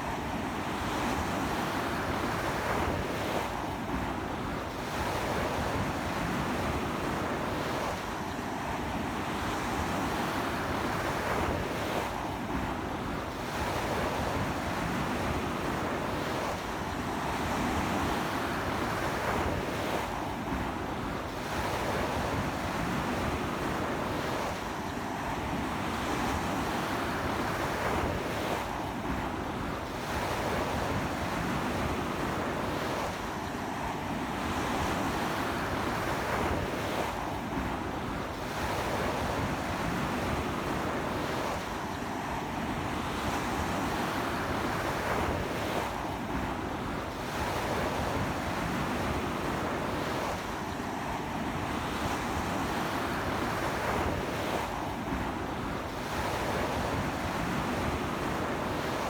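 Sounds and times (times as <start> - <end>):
sea wind: 0.0 - 59.0
sea surf breaking on beach: 8.6 - 59.0.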